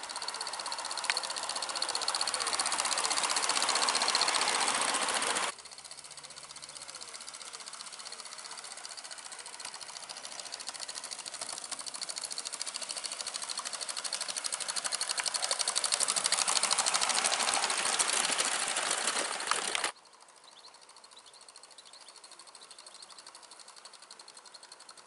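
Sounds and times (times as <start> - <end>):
model train rhythmic clatter: 0.0 - 25.0.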